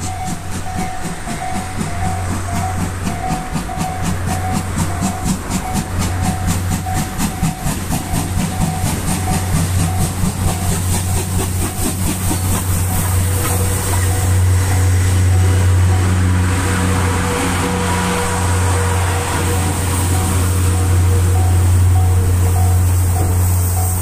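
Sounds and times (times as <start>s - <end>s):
steam locomotive exhaust beating: 0.0s - 24.0s
train coaches rolling: 0.0s - 24.0s.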